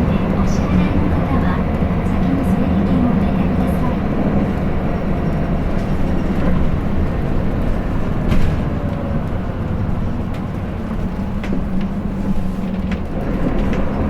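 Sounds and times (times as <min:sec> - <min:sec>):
bus engine hum: 0:00.0 - 0:14.0
road noise: 0:00.0 - 0:14.0.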